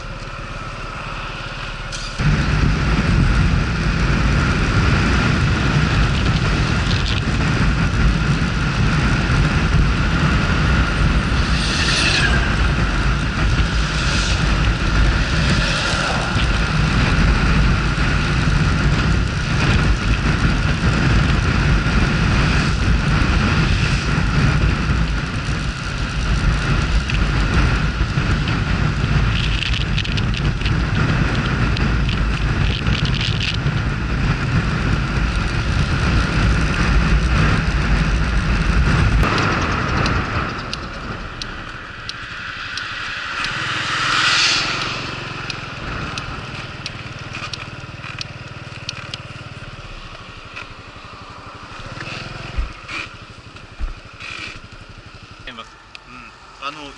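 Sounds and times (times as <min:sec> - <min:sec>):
motorcycle engine running: 0:00.0 - 0:56.9
wind rumble on microphone: 0:00.0 - 0:56.9.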